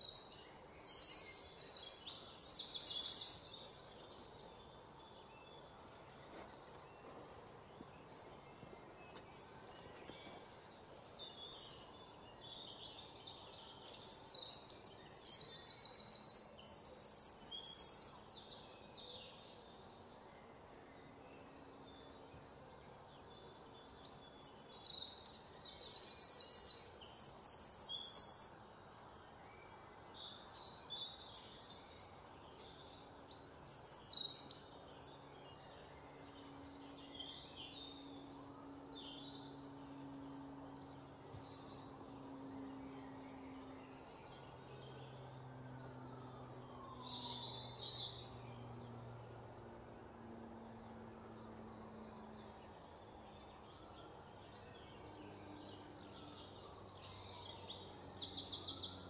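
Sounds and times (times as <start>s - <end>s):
bird chirps: 0.0s - 59.0s
bird singing: 0.0s - 59.0s.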